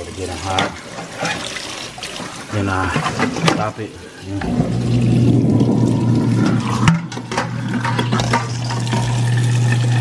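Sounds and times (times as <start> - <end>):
faucet water splashing into sink: 0.0 - 10.0.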